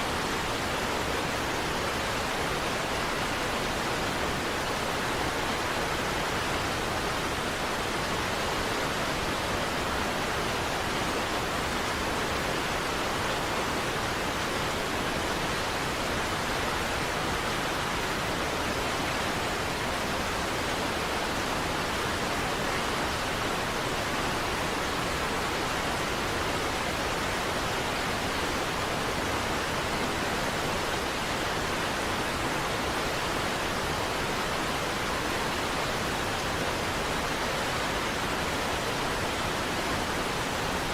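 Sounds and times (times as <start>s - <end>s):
rush of falling water: 0.0s - 40.9s.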